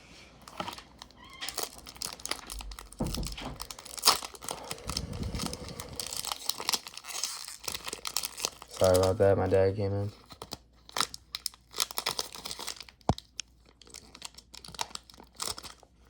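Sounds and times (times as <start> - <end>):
foil wrapper crinkling: 0.4 - 16.0.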